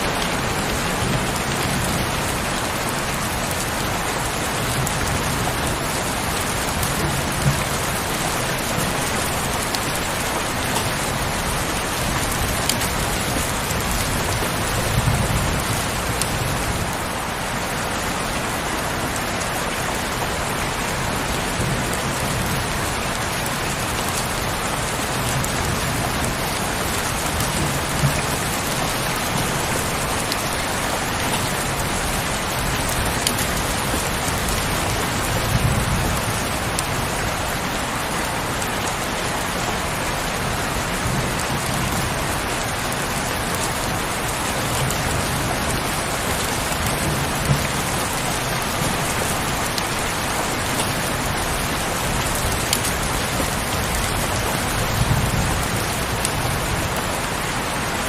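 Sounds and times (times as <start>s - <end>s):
heavy rain on a window: 0.0s - 58.0s.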